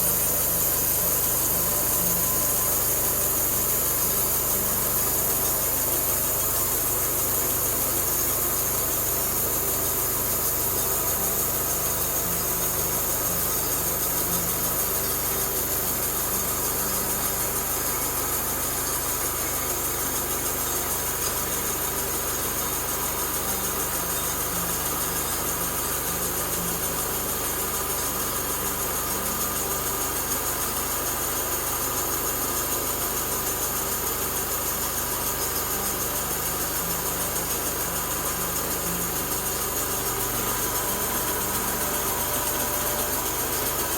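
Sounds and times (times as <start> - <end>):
constant high hiss: 0.0 - 43.9
small gasoline engine running: 0.0 - 43.9.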